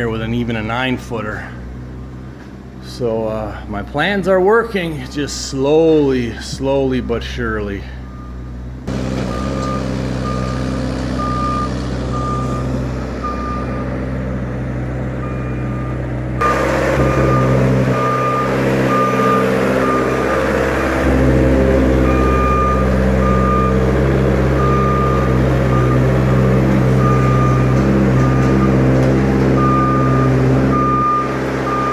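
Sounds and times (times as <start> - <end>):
truck backup alarm beeping: 0.0 - 31.9
truck engine running: 0.0 - 31.9.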